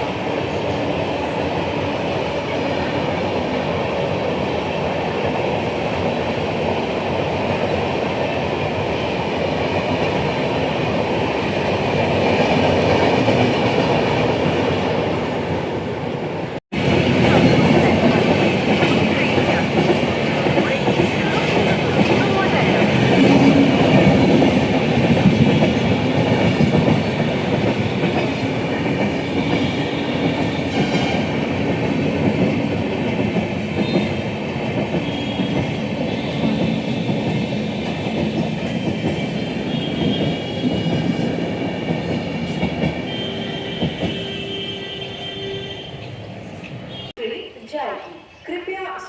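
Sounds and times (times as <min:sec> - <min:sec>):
train wheels rushing on rails: 0:00.0 - 0:47.1.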